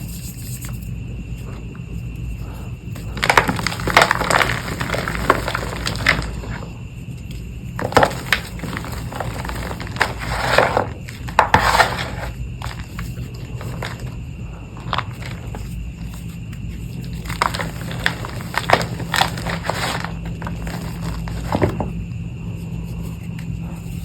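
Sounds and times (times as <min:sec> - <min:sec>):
chalk crushed and crumbling: 0:02.4 - 0:21.9.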